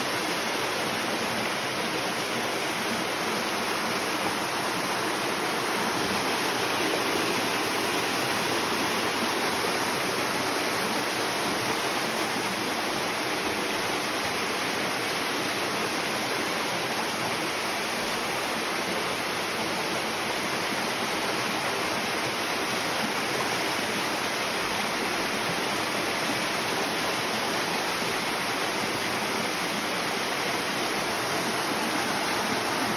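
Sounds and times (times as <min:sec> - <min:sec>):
waterfall rushing and splashing: 0:00.0 - 0:32.9.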